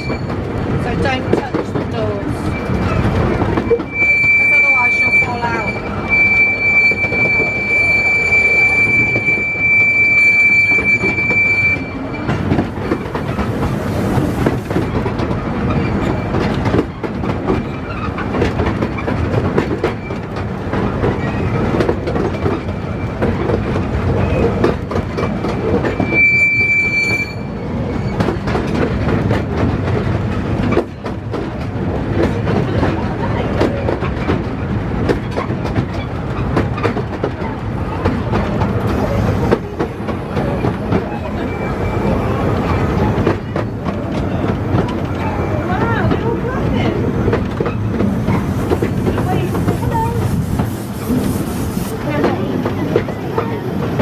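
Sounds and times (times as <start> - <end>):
wheels clicking on track: 0.0 - 6.4, 10.7 - 27.0, 27.6 - 54.0
miniature train rumbling: 0.0 - 54.0.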